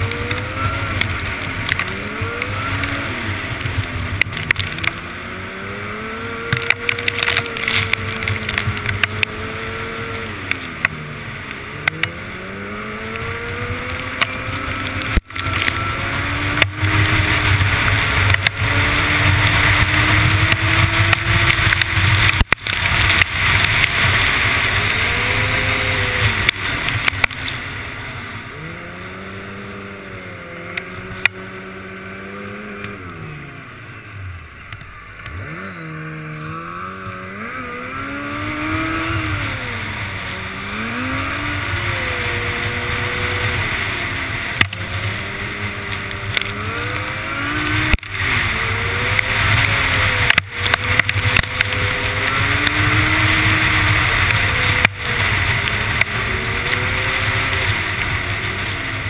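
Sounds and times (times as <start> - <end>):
snowmobile engine revving: 0.0 - 59.0
steady rushing noise: 0.0 - 59.0.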